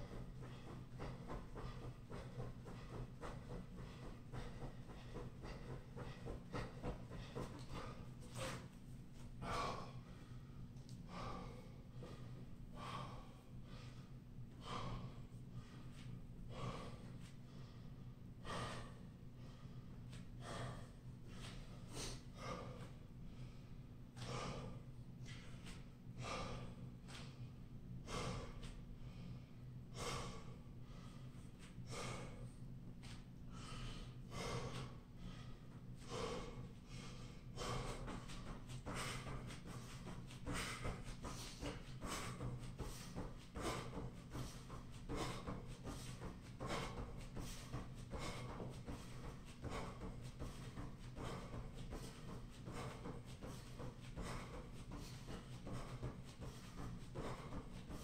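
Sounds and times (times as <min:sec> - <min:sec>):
man breathing hard: 0:00.0 - 0:58.0
steady low hum: 0:00.0 - 0:58.0.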